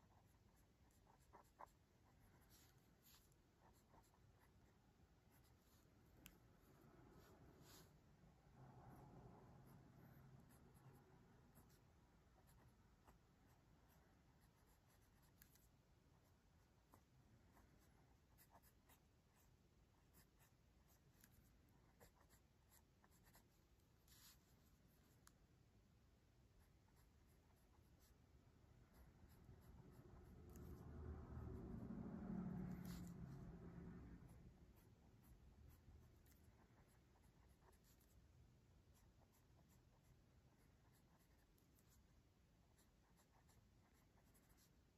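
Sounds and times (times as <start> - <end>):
pencil scratching on paper: 0.0 - 8.0, 10.4 - 25.3, 26.6 - 28.2, 28.8 - 31.0, 32.6 - 33.5, 34.3 - 44.9.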